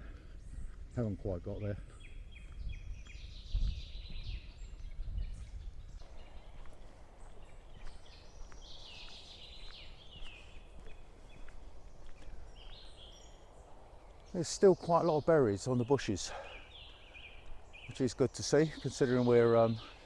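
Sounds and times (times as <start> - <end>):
wind rumbling on microphone: 0.0 - 18.3
small birds chattering: 0.0 - 20.0.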